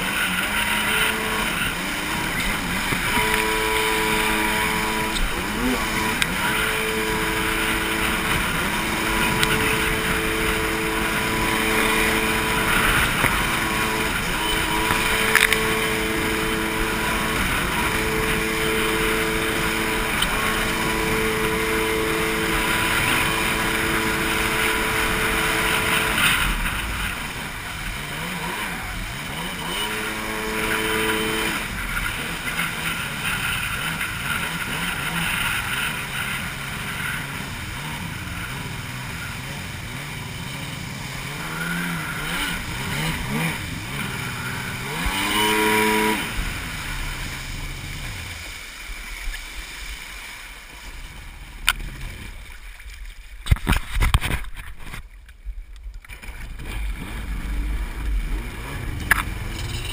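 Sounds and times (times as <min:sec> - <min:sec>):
jet ski engine running: 0:00.0 - 0:59.9.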